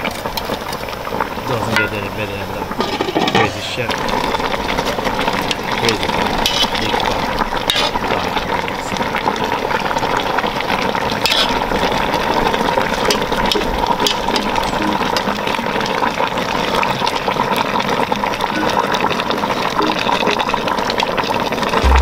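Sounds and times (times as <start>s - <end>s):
pot simmering and bubbling: 0.0s - 22.0s.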